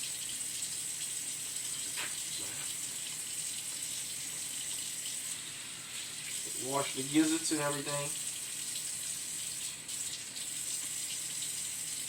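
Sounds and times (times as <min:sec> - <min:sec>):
kitchen faucet running: 0:00.0 - 0:12.0.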